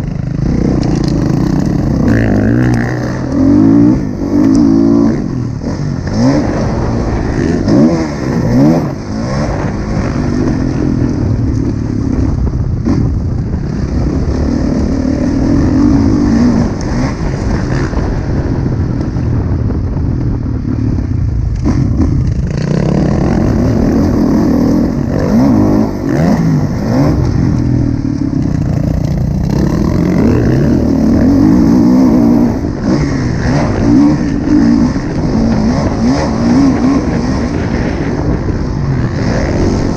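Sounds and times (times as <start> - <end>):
motocross bike engine revving: 0.0 - 18.9, 21.6 - 39.9.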